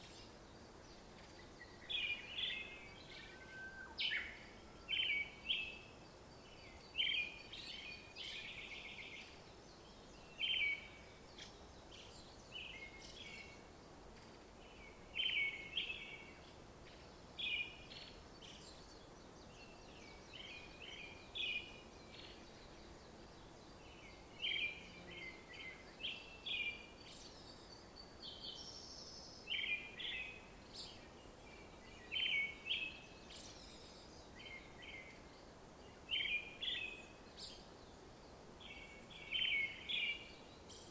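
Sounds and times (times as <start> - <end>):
faint background hiss: 0.0 - 40.9
songbird chirping: 0.0 - 40.9.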